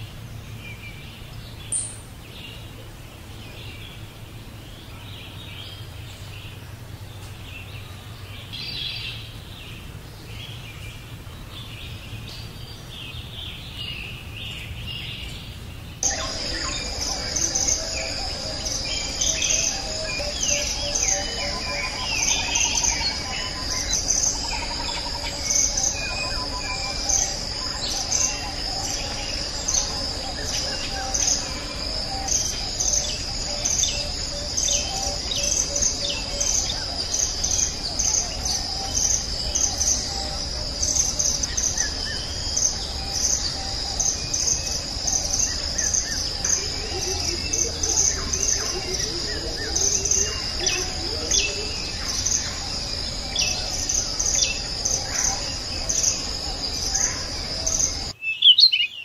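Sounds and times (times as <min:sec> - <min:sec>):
bird calls and trills: 0:00.0 - 0:59.0
insect chorus pulsing chirp: 0:00.0 - 0:59.0.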